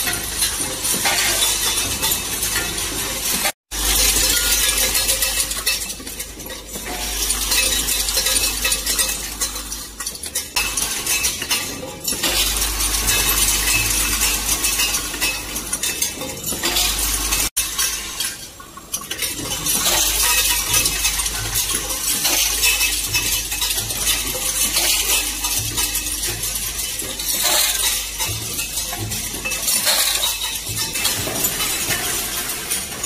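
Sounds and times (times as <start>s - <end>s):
metal screws clinking and rattling: 0.0s - 33.0s.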